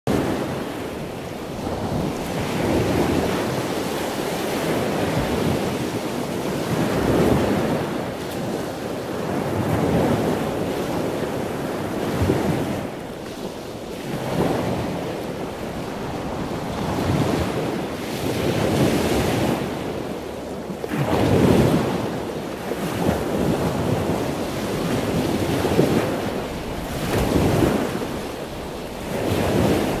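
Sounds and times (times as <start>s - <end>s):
rushing surf: 0.1s - 20.2s, 20.8s - 30.0s
wind noise: 0.1s - 30.0s.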